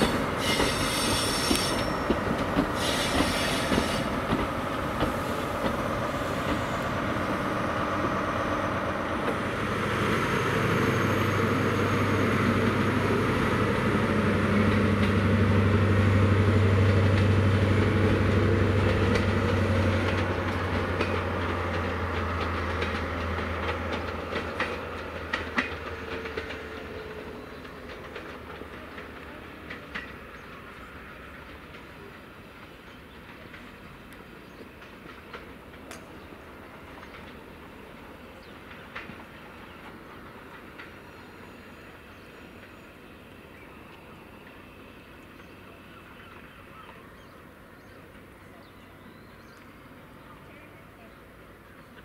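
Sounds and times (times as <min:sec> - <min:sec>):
train wheels clattering over rail joints: 0:00.0 - 0:45.6.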